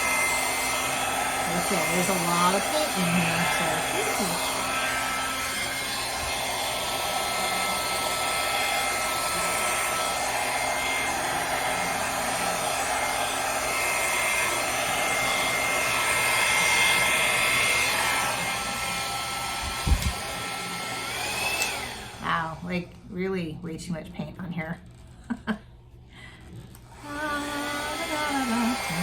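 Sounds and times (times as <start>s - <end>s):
hair dryer switching off whine: 0.0s - 22.8s, 26.7s - 29.0s
hair dryer running: 0.0s - 23.0s, 26.2s - 29.0s.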